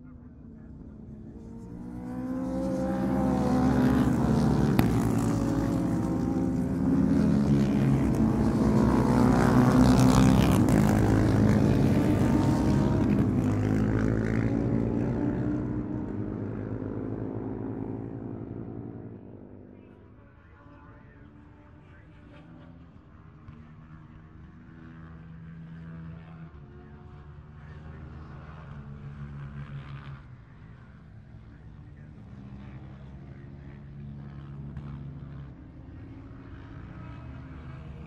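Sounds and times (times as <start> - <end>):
racing motorcycles passing: 0.1 - 38.0.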